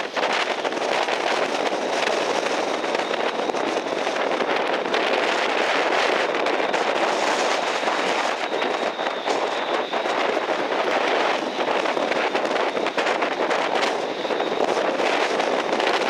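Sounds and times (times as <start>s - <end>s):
strong wind: 0.0s - 16.0s
wind buffeting microphone: 0.0s - 16.0s.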